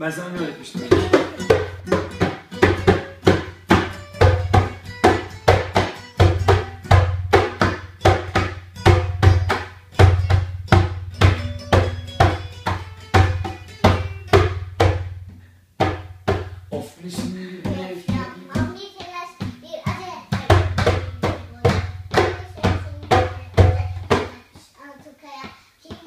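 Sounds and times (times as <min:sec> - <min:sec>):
classical guitar strumming: 0:00.3 - 0:18.8, 0:20.6 - 0:24.4
hand drum beating: 0:00.8 - 0:24.4.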